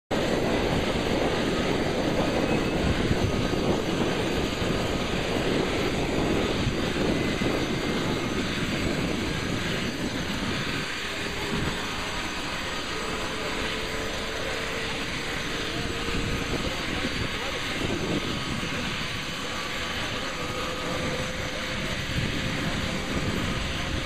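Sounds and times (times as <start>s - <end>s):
helicopter engines and rotors: 0.1s - 24.0s.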